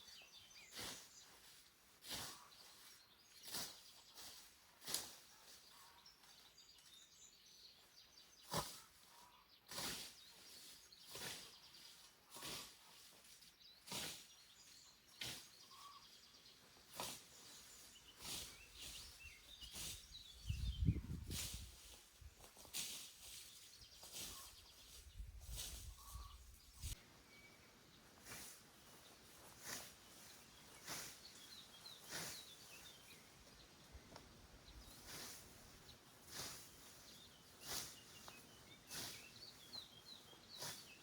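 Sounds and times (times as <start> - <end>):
faint bird chirps: 0.0 - 22.0, 22.9 - 35.4
scythe swishing through grass: 0.6 - 5.9, 8.4 - 16.0, 16.8 - 27.0, 28.2 - 33.3, 34.8 - 41.0.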